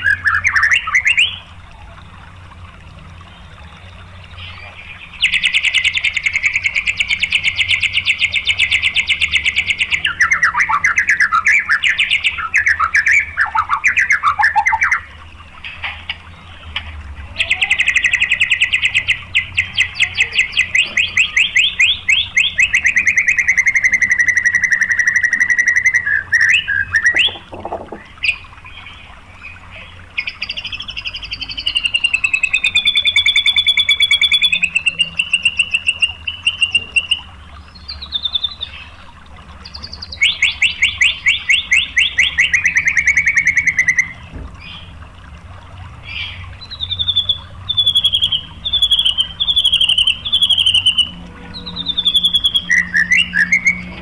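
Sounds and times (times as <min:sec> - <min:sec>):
bird singing fast repeated notes: 0:00.0 - 0:02.2, 0:03.2 - 0:16.7, 0:17.3 - 0:45.0, 0:46.0 - 0:54.0.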